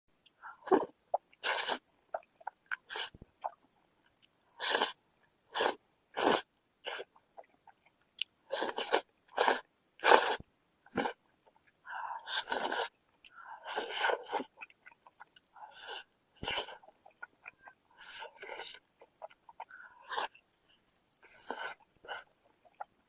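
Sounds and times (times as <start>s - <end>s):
person slurping and chewing noodles: 0.6s - 3.6s, 4.6s - 7.8s, 8.5s - 11.2s, 12.2s - 12.9s, 13.6s - 22.9s.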